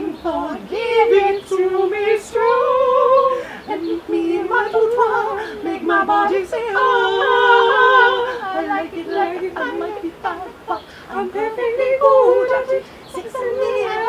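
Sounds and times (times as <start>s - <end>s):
voices singing pop song: 0.0s - 14.0s.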